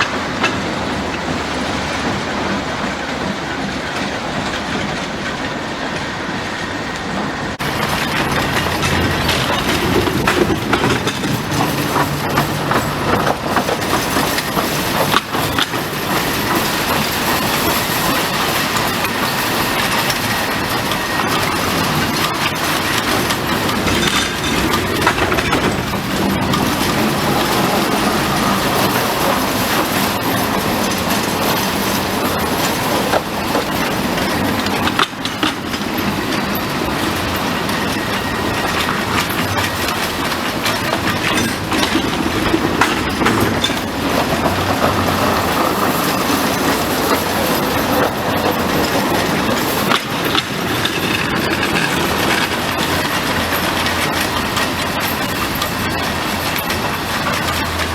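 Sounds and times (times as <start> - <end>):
mine train clattering on track: 0.0 - 57.9.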